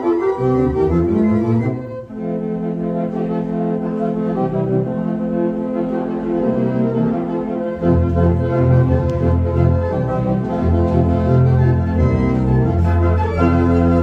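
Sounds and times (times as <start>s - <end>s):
pipe organ playing chords: 0.0s - 14.0s
deep organ bass: 0.1s - 14.0s.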